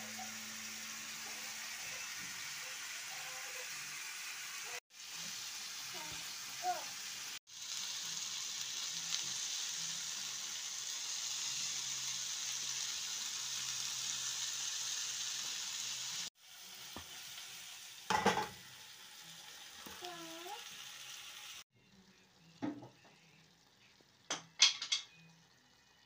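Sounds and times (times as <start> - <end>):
vegetables sizzling in a frying pan: 0.0 - 26.0.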